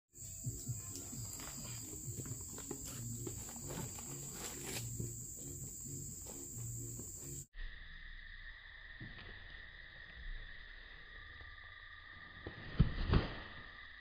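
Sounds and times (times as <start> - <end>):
high-pitched insect drone: 0.2 - 12.8, 13.4 - 14.0
lower insect drone: 0.2 - 14.0.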